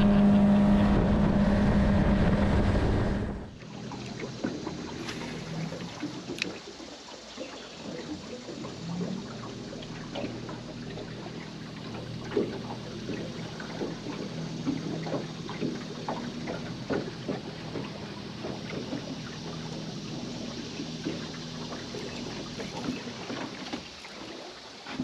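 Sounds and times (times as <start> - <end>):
steady low hum: 0.0 - 24.9
water lapping against boat hull: 3.5 - 25.0.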